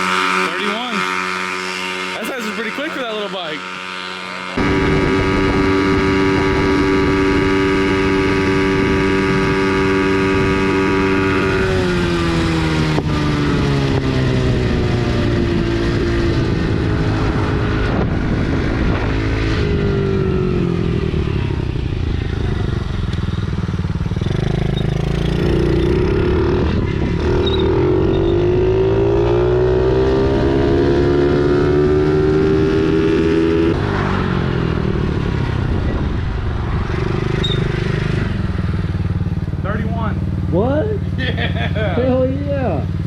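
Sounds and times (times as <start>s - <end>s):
small motorcycle engine revving: 0.0s - 43.0s.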